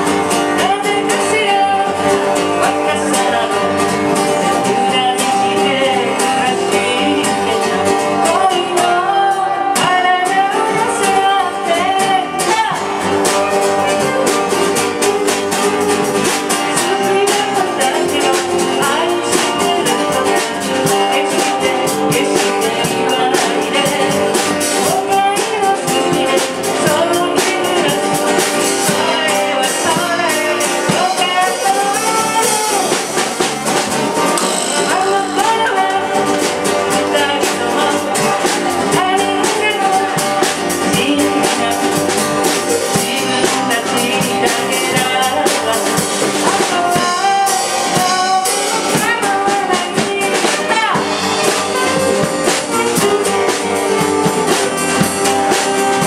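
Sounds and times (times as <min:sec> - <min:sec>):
live band playing: 0:00.0 - 0:56.0
woman singing: 0:00.0 - 0:56.0.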